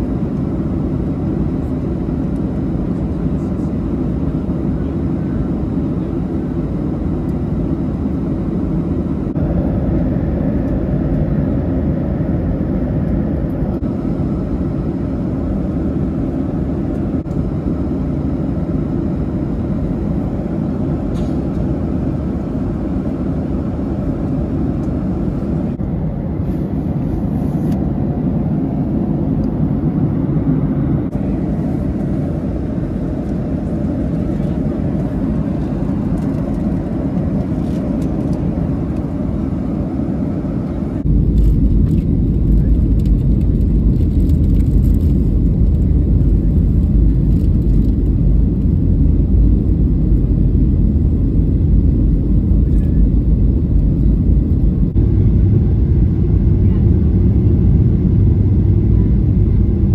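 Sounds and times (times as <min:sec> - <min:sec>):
airplane cabin engine hum: 0:00.0 - 0:59.9.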